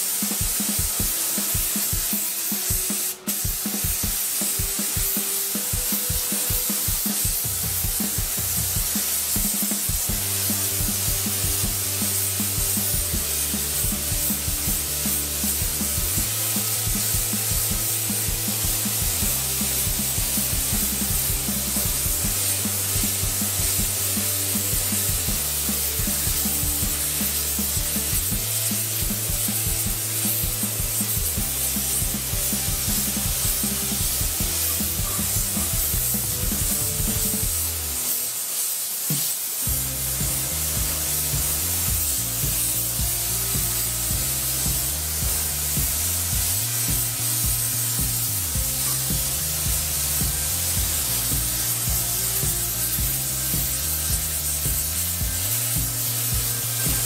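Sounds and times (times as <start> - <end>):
music with steady beat and bass: 0.0 - 57.0
paint spray gun hissing: 0.0 - 57.0.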